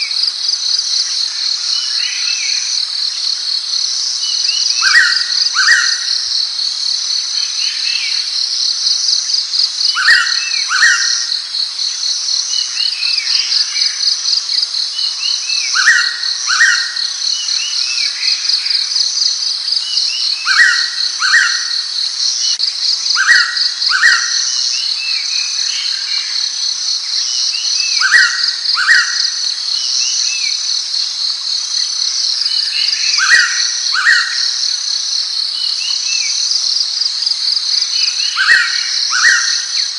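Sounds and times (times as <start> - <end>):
insects chorus pulsing: 0.0 - 39.9.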